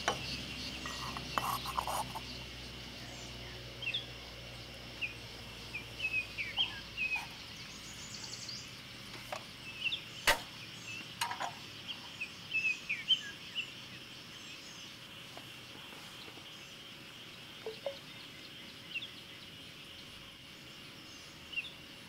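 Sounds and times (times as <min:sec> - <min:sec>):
outdoor background hiss: 0:00.0 - 0:22.0
small birds chirping: 0:00.0 - 0:22.0.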